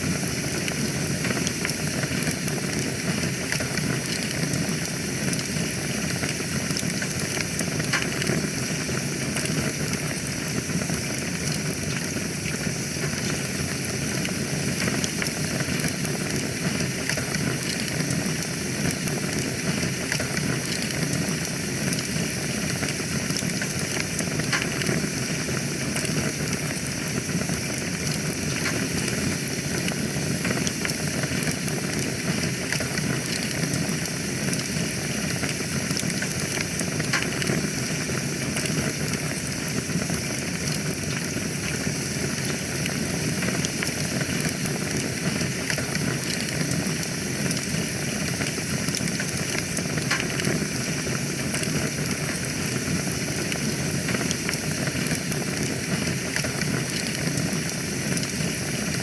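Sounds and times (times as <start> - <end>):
wood fire burning: 0.0 - 59.0.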